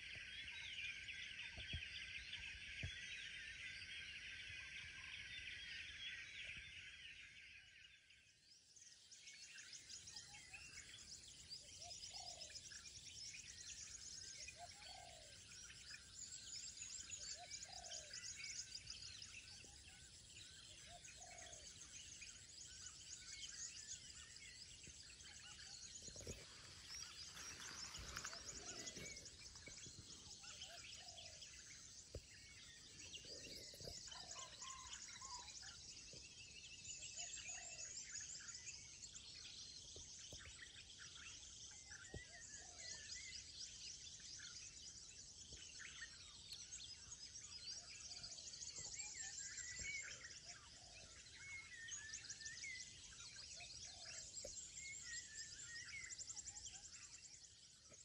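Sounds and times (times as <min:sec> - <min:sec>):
small birds chirping and trilling: 0:00.0 - 0:58.0.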